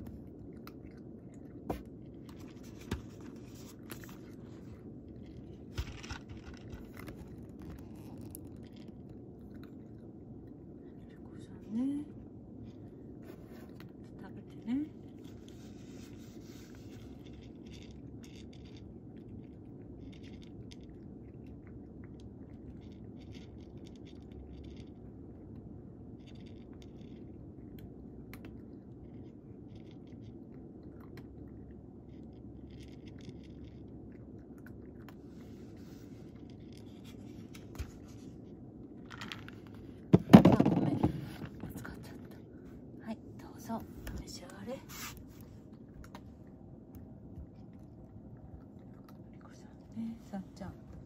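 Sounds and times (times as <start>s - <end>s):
cat crunching dry kibble: 0.0s - 51.0s
low room hum: 0.0s - 51.0s.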